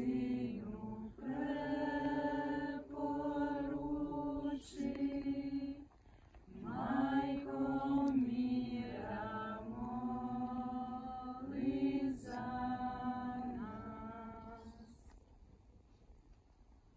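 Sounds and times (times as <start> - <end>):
group singing a hymn a cappella: 0.0 - 5.9, 6.5 - 15.2.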